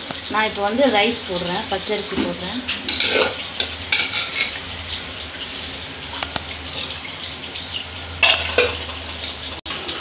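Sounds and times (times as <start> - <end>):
water boiling hard: 0.0 - 10.0.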